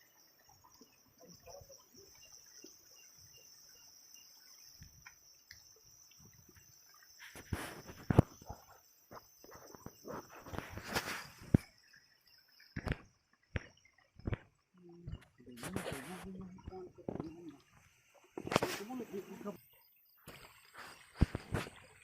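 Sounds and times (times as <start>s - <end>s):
night insects chirring: 0.0s - 22.0s
water splashing and sloshing: 0.0s - 22.0s.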